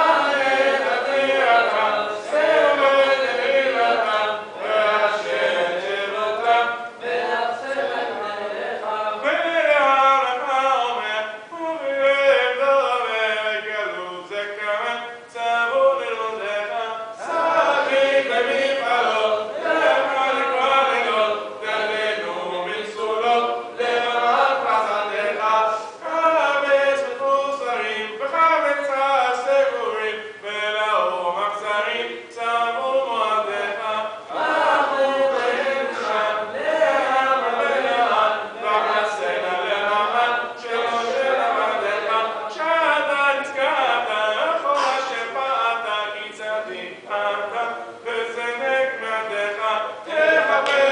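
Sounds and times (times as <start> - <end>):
men chanting in unison: 0.0 - 50.9.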